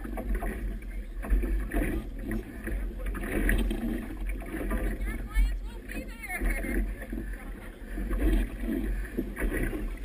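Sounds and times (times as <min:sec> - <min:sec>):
water slapping against boat hull: 0:00.0 - 0:10.0.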